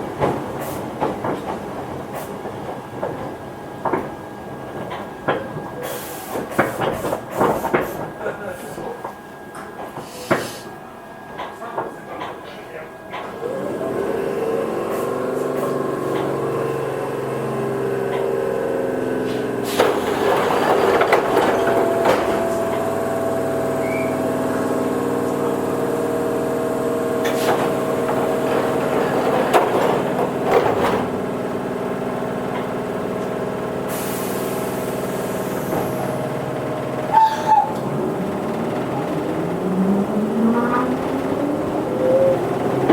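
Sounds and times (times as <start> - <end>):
electric train hum: 0.0 - 42.9
wheels clacking on track: 0.0 - 42.9.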